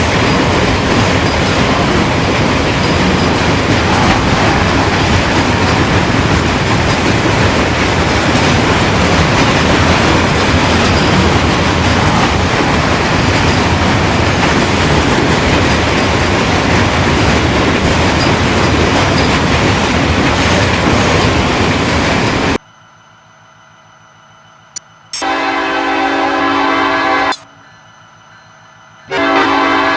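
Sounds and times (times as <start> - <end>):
train wheels on rail: 0.0 - 22.6, 27.0 - 29.9.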